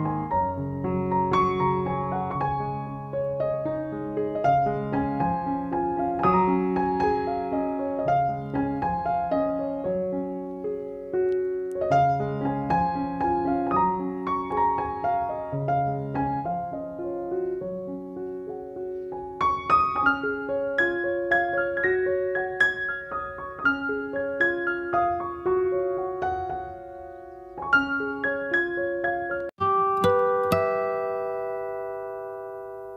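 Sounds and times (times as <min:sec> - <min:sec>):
gentle solo piano melody: 0:00.0 - 0:32.9.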